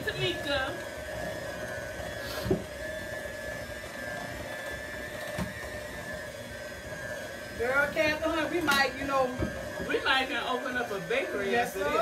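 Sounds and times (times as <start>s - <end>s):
electric hand mixer whipping: 0.0s - 12.0s.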